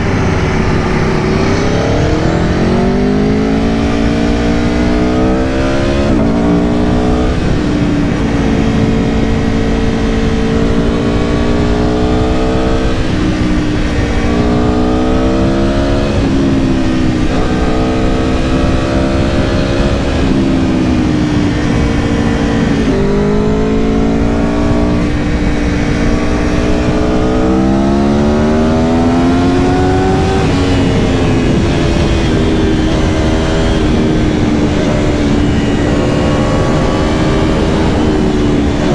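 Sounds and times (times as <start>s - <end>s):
motorcycle engine revving: 0.0s - 38.9s
wind rushing: 0.0s - 38.9s.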